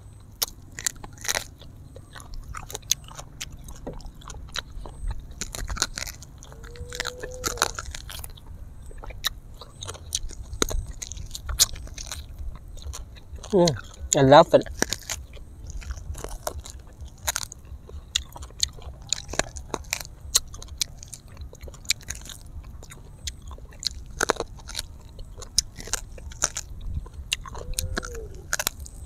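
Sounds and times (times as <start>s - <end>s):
biting and chewing meat: 0.0s - 29.0s.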